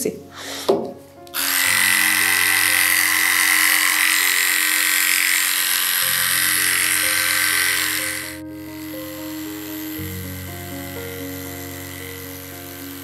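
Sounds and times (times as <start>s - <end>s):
electric clipper buzzing: 0.4s - 13.0s.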